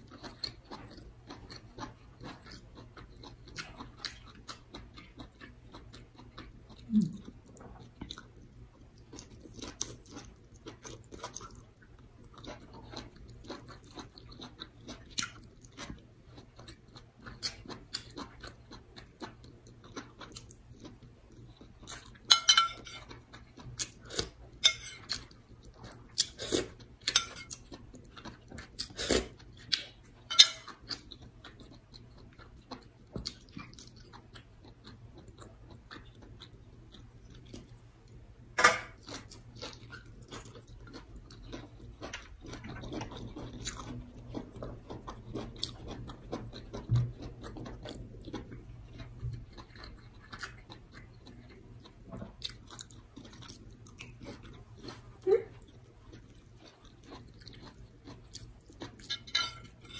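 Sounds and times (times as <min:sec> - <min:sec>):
chewing and lip smacking: 0:00.0 - 0:38.2, 0:39.0 - 0:59.9.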